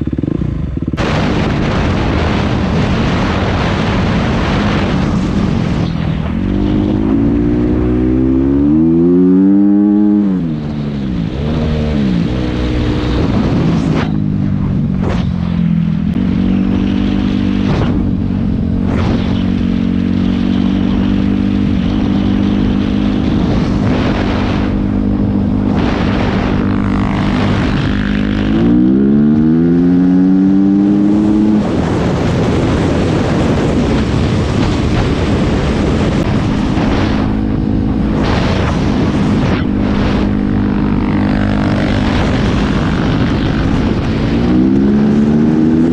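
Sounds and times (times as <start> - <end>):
dirt bike engine running: 0.0 - 45.9
wind noise: 0.0 - 45.9.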